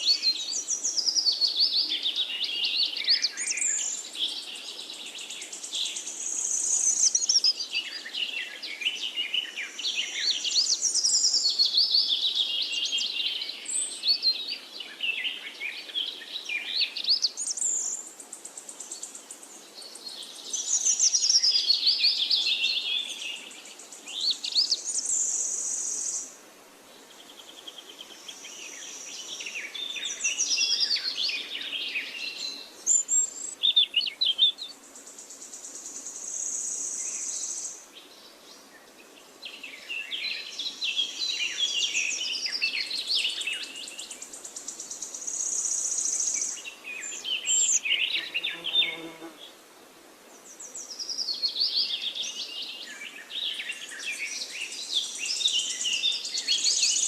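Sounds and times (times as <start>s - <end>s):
birds singing and chirping: 0.0s - 26.3s, 27.3s - 49.4s, 50.4s - 57.0s.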